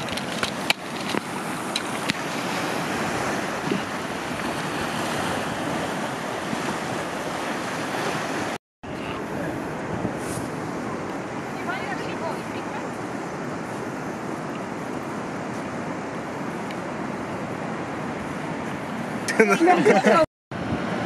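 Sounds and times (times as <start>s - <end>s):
wind buffeting microphone: 0.0s - 19.4s, 20.5s - 21.0s
surf washing over rocks: 0.0s - 21.0s.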